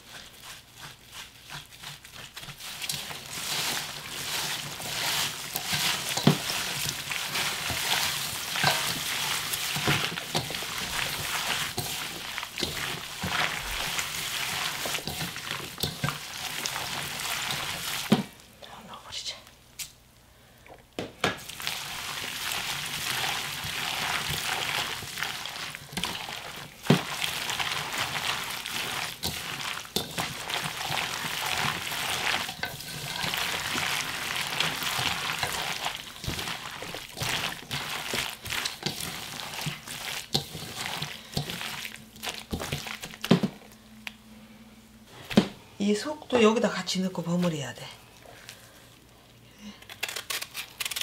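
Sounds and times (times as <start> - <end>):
wet squelching and rustling: 0.0 - 18.6, 21.4 - 44.2.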